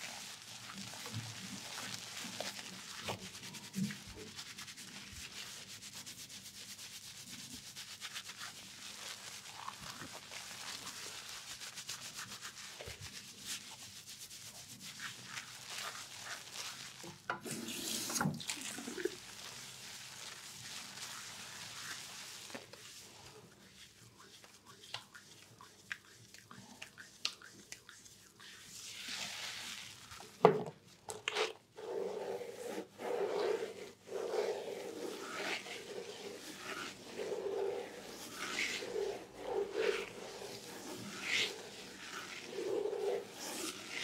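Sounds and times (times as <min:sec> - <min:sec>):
fingers scrubbing lathered hair: 0:00.0 - 0:30.4, 0:31.2 - 0:44.0.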